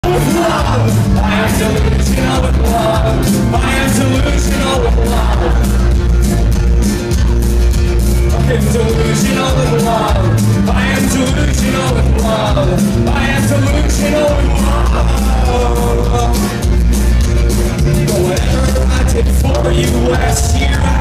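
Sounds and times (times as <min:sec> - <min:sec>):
man singing: 0:00.0 - 0:05.9, 0:08.3 - 0:16.7, 0:17.9 - 0:21.0
bass guitar: 0:00.0 - 0:21.0
steady drum beat: 0:00.0 - 0:21.0
strummed acoustic guitar: 0:00.0 - 0:21.0.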